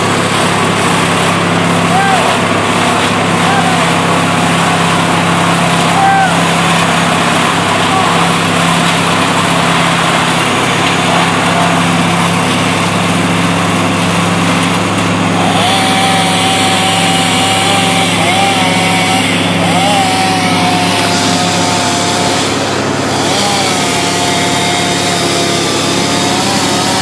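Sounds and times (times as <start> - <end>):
higher engine tone: 0.0 - 27.0
tree-cutting machine engine running: 0.0 - 27.0.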